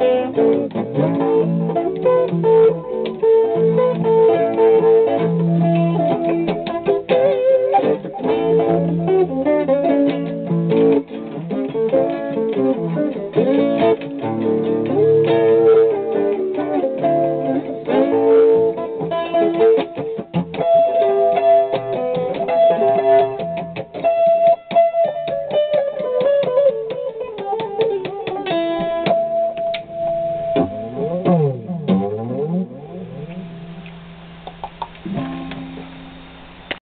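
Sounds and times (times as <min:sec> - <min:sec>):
guitar picking: 0:00.0 - 0:36.8.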